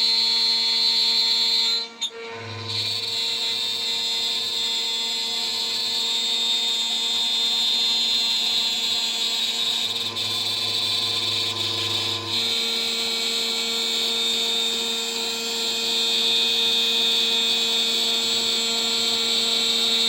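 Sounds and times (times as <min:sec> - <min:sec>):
router spindle high whine: 0:00.0 - 0:20.0.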